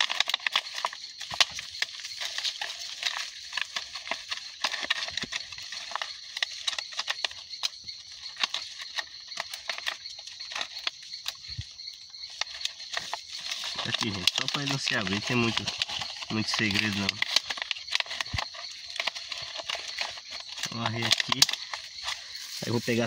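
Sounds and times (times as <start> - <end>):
plastic crinkling and crackling: 0.0 - 23.0
steady high-pitched hiss: 0.0 - 23.0.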